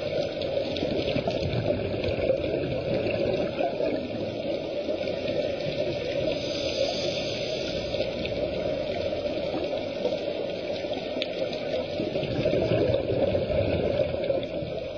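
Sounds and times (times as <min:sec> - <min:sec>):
muffled underwater rushing and bubbling: 0:00.0 - 0:14.9.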